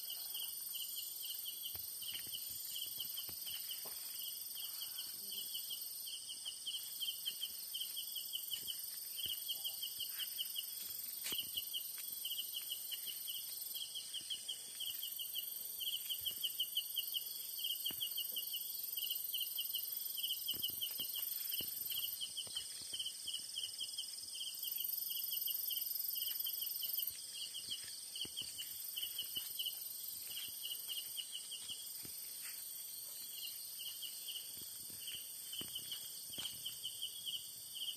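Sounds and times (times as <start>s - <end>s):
high-pitched insect drone: 0.0s - 37.9s
insect chirping trill: 0.0s - 37.9s.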